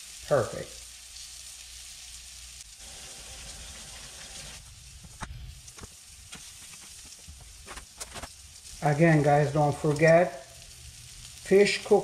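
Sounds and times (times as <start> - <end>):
fish patties sizzling in butter: 0.0 - 12.0.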